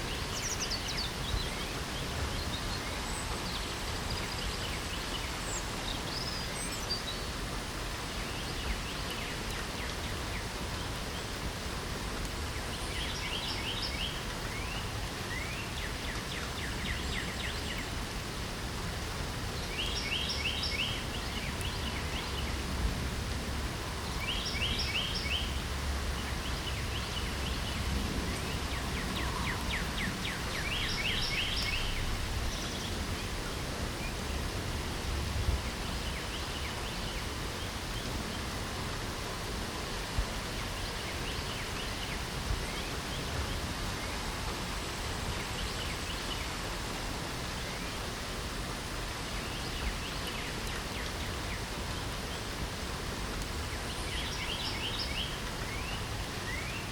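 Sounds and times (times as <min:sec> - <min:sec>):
rain hiss: 0:00.0 - 0:56.9
songbird singing: 0:00.0 - 0:56.9.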